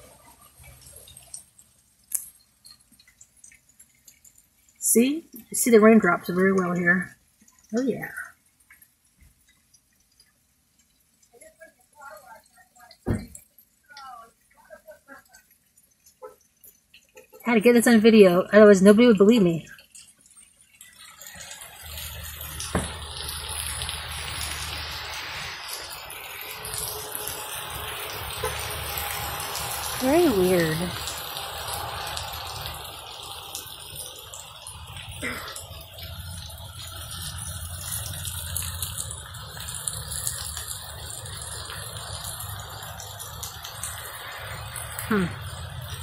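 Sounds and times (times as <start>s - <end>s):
heavy rain pouring: 0.0s - 46.0s
drops ticking: 0.4s - 46.0s.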